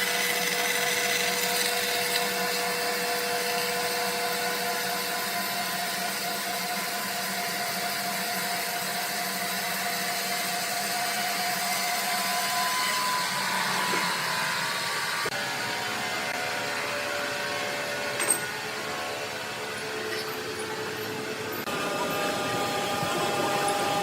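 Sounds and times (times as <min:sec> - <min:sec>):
machine whining tones: 0:00.0 - 0:24.0
sawmill machinery whirring hum: 0:00.0 - 0:24.0.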